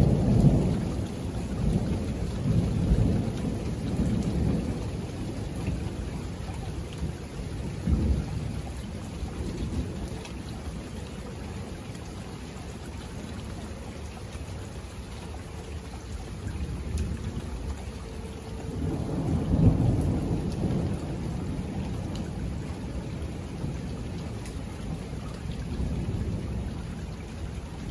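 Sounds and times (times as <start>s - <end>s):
thunder rumbling: 0.0s - 12.1s, 15.6s - 27.9s
steady rain: 0.0s - 27.9s.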